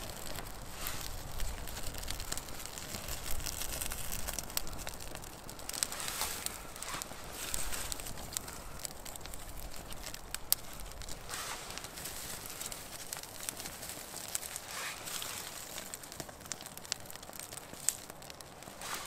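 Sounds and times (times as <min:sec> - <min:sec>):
fire crackling and popping: 0:00.0 - 0:19.0
wood shavings rustling: 0:00.0 - 0:19.0.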